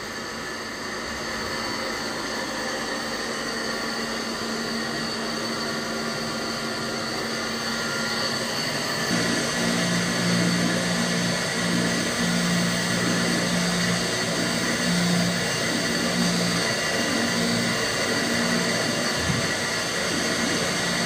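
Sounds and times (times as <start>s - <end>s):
lathe humming with whining tones: 0.0s - 21.0s
milling spindle wavering hum: 0.0s - 21.0s.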